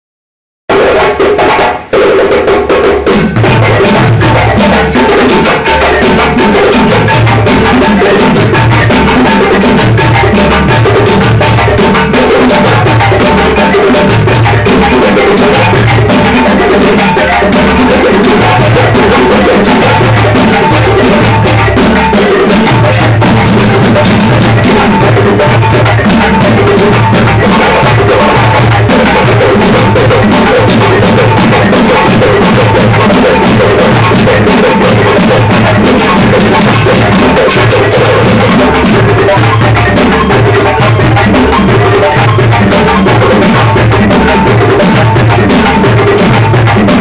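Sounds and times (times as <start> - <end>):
hand drums playing fast rhythm: 0.7 - 47.0.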